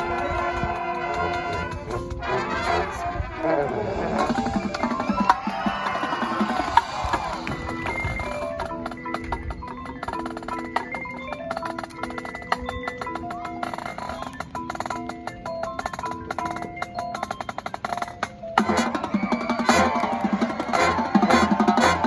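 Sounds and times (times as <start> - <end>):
marimba-like mallet notes: 0.0 - 22.0.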